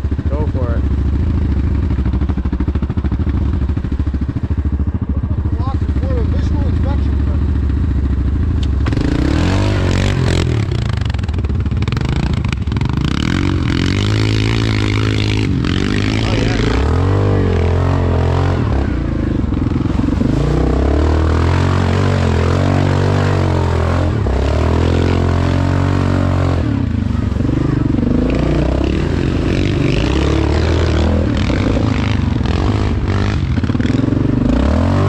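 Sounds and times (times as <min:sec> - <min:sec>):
atv engine revving: 0:00.0 - 0:35.0.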